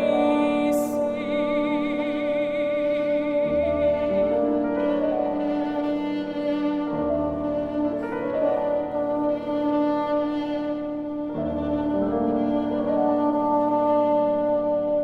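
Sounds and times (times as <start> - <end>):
bassoon: 0.0 - 15.0
piano: 0.0 - 15.0
violin: 0.0 - 15.0.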